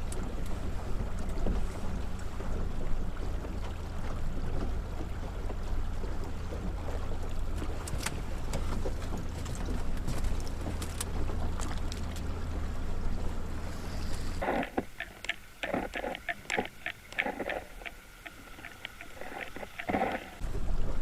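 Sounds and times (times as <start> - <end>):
boat motor humming: 0.0 - 21.0
water and air noise: 0.0 - 21.0.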